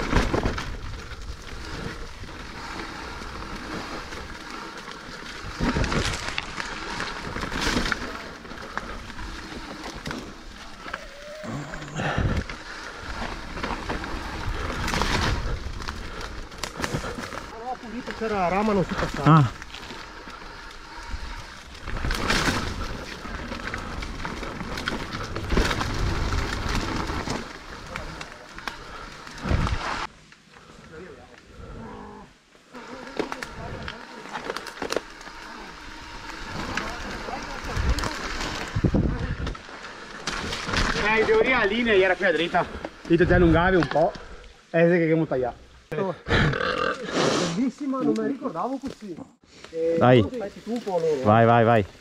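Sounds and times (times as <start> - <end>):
bike tyres rolling over dirt: 0.0 - 45.9, 47.6 - 52.0.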